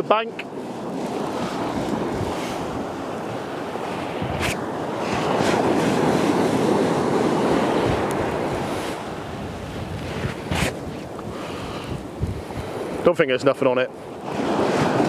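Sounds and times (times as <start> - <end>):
sea surf breaking on beach: 0.0 - 15.0.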